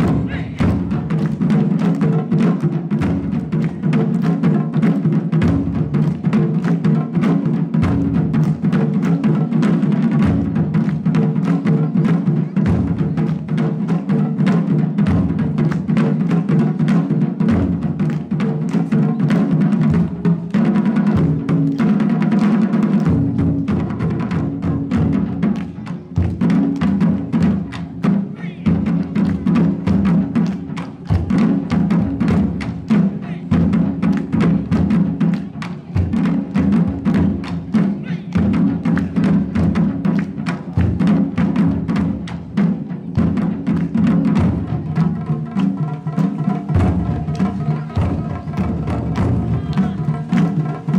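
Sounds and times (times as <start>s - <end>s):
fast ensemble drumming: 0.0s - 50.9s.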